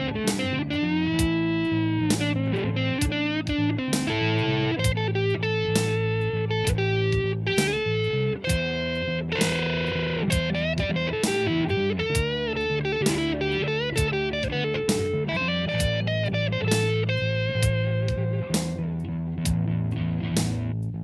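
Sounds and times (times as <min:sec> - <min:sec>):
electric guitar lead with bending notes: 0:00.0 - 0:21.0
steady beat: 0:00.0 - 0:21.0
sustained bass notes: 0:00.0 - 0:21.0.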